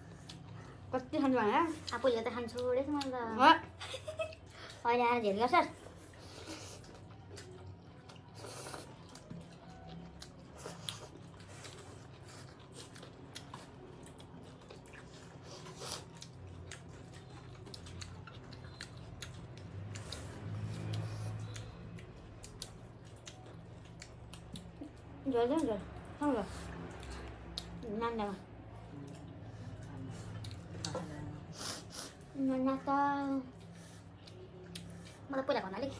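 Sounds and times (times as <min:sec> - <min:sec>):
chewing and lip-smacks: 0:00.0 - 0:00.9, 0:01.7 - 0:03.4, 0:05.8 - 0:27.9, 0:28.6 - 0:32.2, 0:33.5 - 0:35.3.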